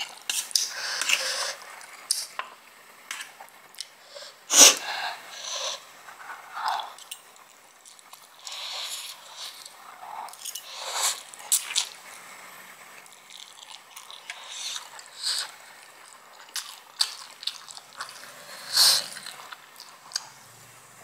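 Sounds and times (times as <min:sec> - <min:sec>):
slurping and chewing: 0:00.0 - 0:02.3, 0:04.7 - 0:12.0, 0:13.0 - 0:20.4.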